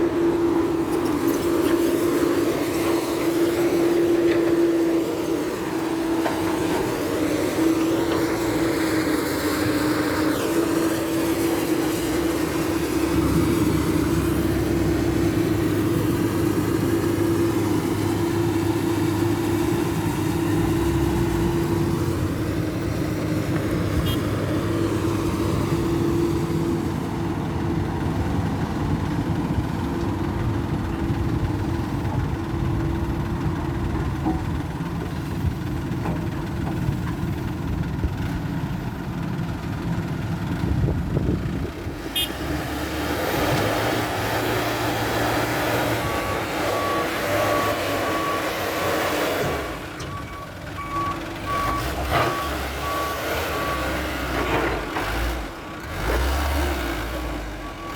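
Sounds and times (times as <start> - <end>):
diesel truck engine running: 0.0 - 57.9.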